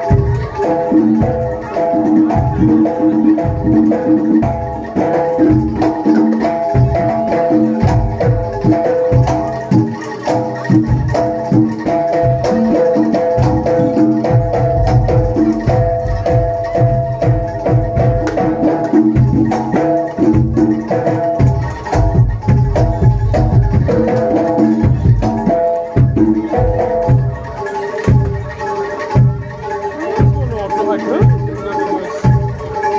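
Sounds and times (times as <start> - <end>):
hand drums beating rhythm: 0.0 - 32.9
pitched metallophone notes: 0.0 - 32.9.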